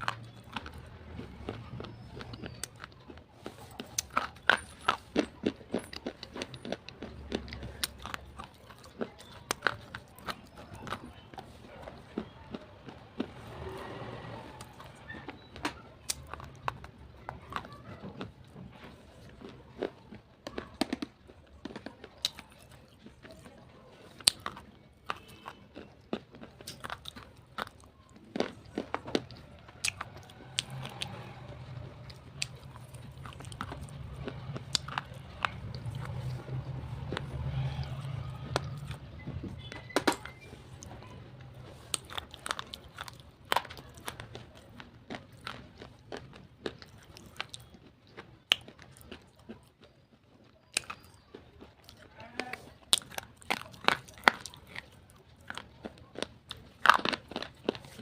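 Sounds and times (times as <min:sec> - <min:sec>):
crunching and snapping while chewing: 0:00.0 - 0:58.0.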